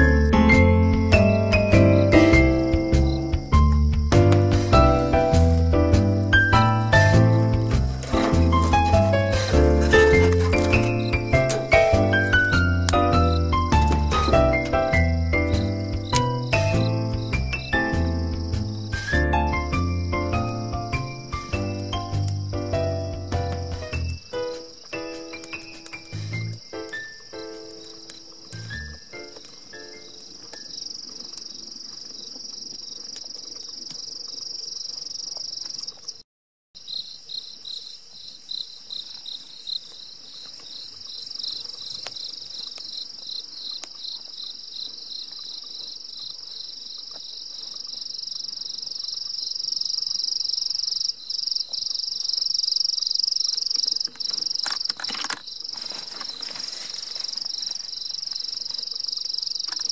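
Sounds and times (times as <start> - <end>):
night insects trilling: 0.1 - 36.2, 36.8 - 59.9.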